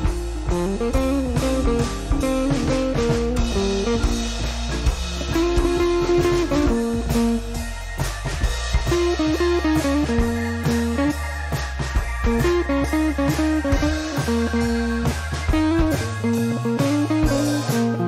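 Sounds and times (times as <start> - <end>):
blues guitar with bass and drums: 0.0 - 18.0.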